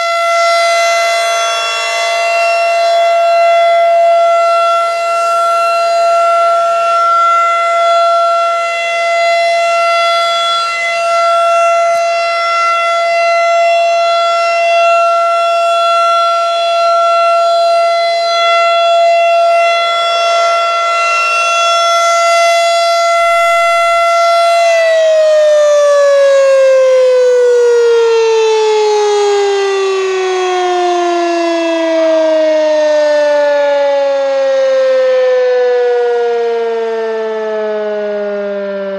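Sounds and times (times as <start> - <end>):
tornado siren winding down: 0.0 - 38.9.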